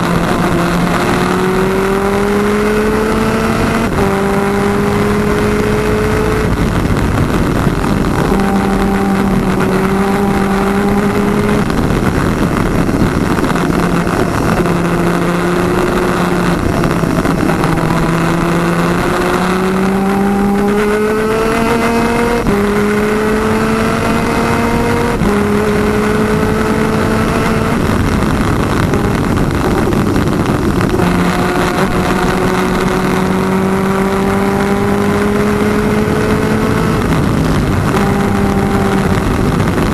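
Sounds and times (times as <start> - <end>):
kart engine racing: 0.0 - 39.9
steady rushing noise: 0.0 - 39.9.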